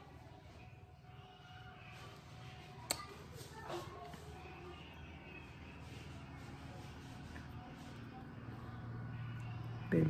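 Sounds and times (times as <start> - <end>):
faint low room hum: 0.0 - 10.0.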